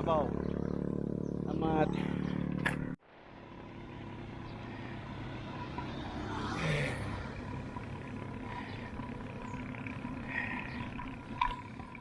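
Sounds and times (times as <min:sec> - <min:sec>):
vehicle passing road rumble: 0:00.0 - 0:12.0.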